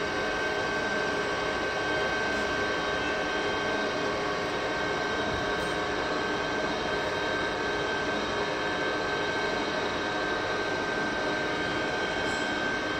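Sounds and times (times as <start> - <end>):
machinery drone with high whine: 0.0 - 12.9.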